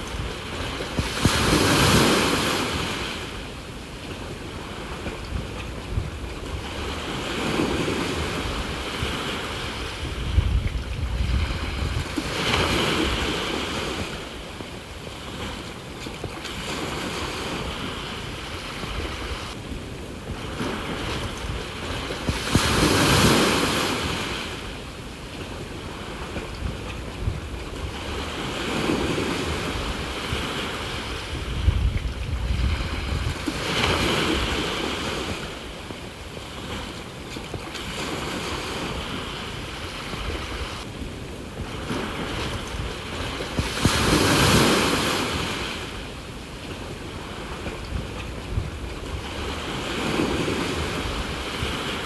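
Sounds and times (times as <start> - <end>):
sea waves washing onto shore: 0.0 - 52.0
wind buffeting microphone: 0.0 - 52.0.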